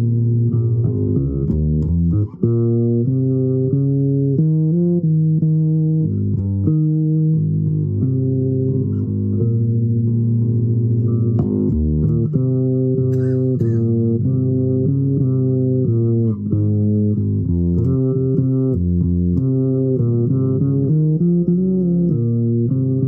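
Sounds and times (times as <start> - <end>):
bass instrument improvisation: 0.0 - 23.0.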